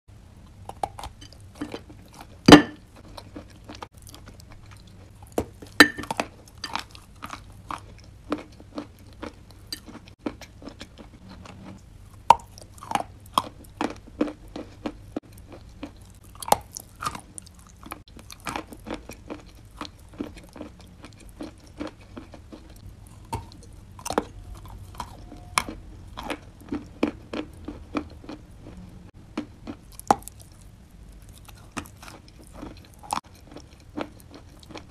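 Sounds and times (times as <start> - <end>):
person biting and chewing chalk: 0.5 - 34.9.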